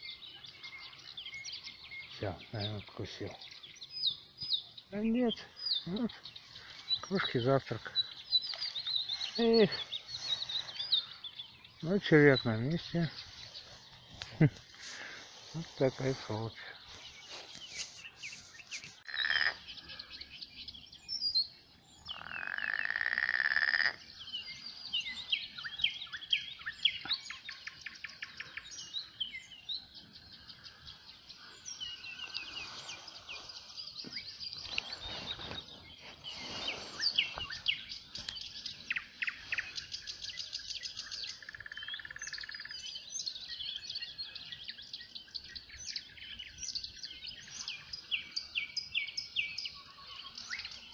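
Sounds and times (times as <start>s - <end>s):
songbirds chirping and singing: 0.0s - 50.9s.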